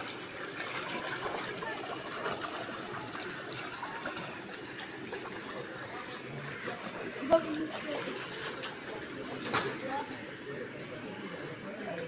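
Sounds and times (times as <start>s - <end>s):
floodwater running and trickling: 0.0s - 12.0s.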